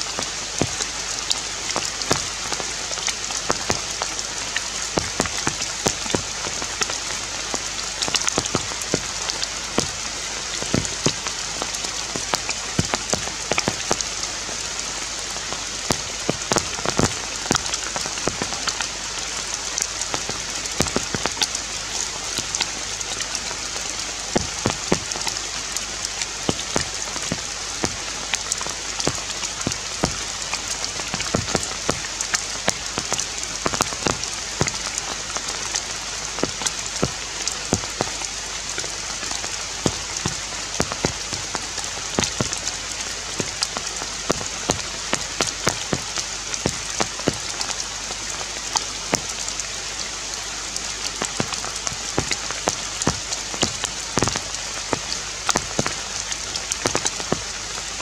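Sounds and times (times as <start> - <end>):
rain on foliage: 0.0 - 58.0.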